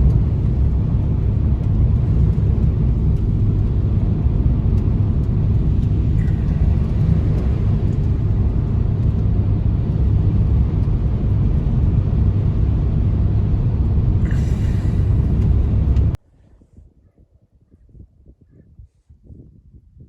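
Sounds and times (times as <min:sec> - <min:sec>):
blizzard wind blowing: 0:00.0 - 0:20.0.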